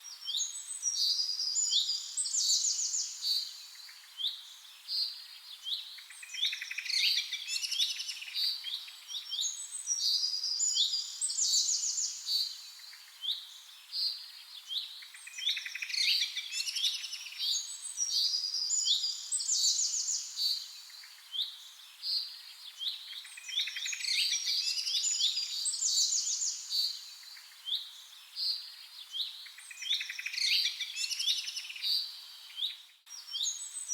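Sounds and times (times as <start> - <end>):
songbirds singing: 0.0 - 33.9.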